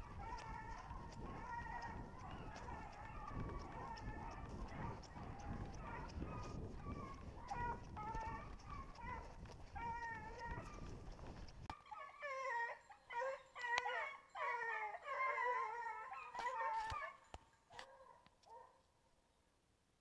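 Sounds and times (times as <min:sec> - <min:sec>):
hound baying: 0:00.0 - 0:10.8, 0:11.7 - 0:18.8.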